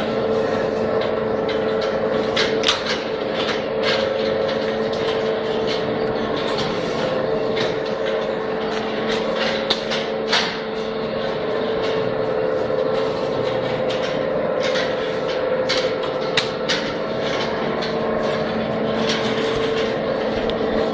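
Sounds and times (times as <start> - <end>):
machine motor hum: 0.0 - 20.9
sharp clicks and knocks: 0.9 - 20.9.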